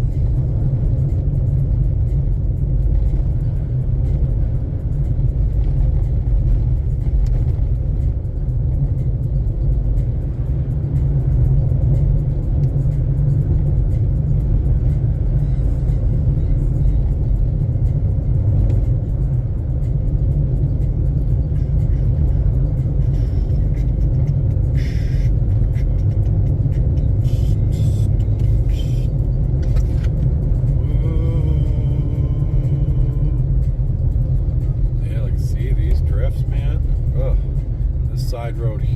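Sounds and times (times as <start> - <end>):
tyres and engine rumble: 0.0 - 38.9.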